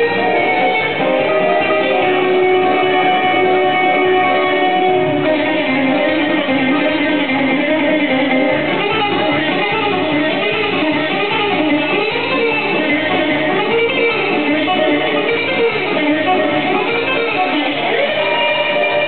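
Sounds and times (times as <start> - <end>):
band music: 0.0 - 19.0
bouzouki plucking melody: 0.0 - 19.0.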